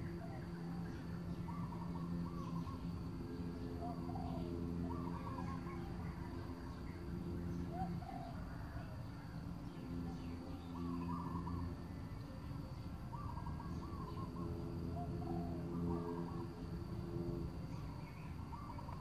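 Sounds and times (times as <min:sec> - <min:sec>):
low hooting bird call: 0:00.0 - 0:19.0
steady high-pitched whine: 0:00.0 - 0:19.0.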